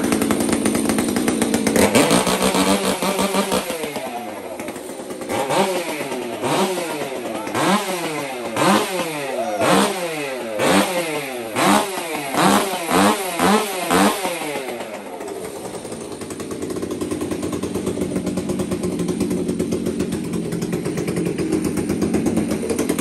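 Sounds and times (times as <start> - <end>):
chainsaw engine revving and idling: 0.0 - 23.0.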